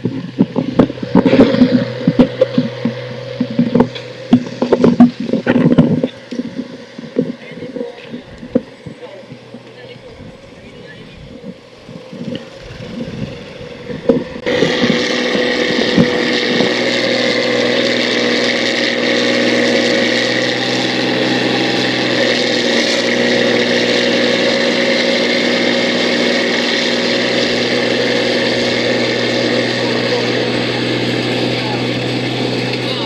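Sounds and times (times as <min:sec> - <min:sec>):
combine harvester engine running: 0:00.0 - 0:33.0.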